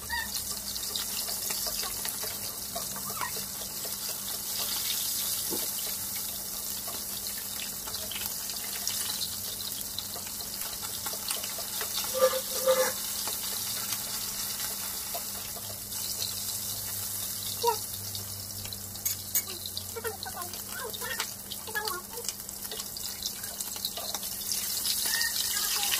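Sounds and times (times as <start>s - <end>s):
fish frying in hot oil: 0.0s - 25.9s.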